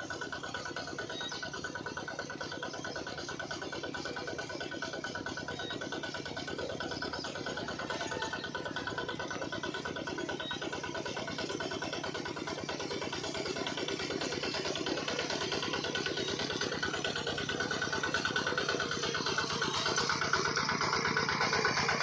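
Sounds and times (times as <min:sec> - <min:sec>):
small water pump engine putter: 0:00.0 - 0:22.0.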